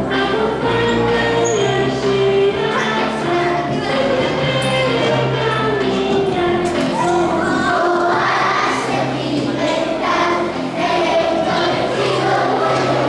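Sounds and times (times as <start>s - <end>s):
woman and children singing: 0.0s - 13.0s.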